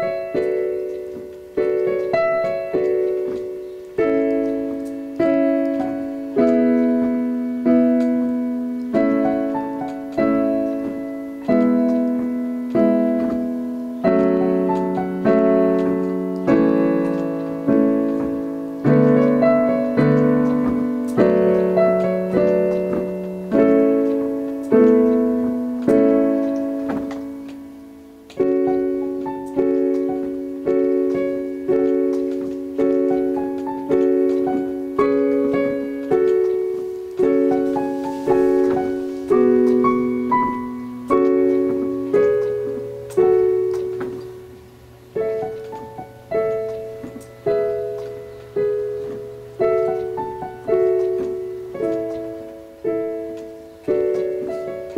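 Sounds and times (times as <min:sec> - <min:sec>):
slow piano piece: 0:00.0 - 0:54.9.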